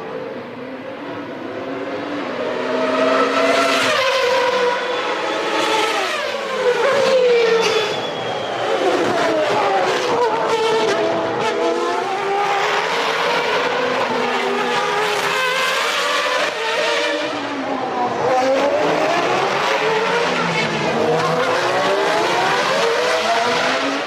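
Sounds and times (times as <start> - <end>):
racing car engines at high revs: 0.1 - 24.0.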